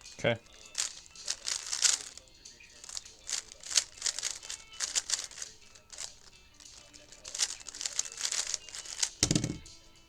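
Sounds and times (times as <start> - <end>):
puzzle cube plastic clicking: 0.0 - 9.8.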